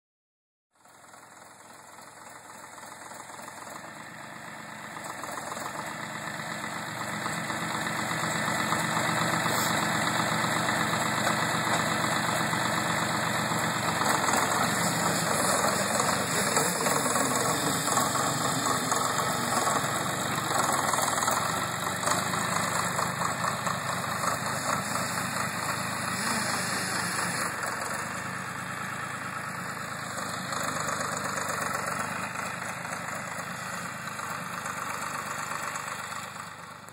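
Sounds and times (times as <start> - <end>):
diesel engine running: 0.8 - 36.9.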